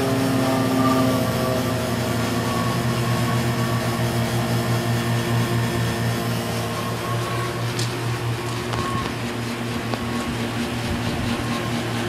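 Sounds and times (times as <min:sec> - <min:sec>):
air conditioner units humming: 0:00.0 - 0:12.0
pulsing low drone: 0:00.0 - 0:12.0.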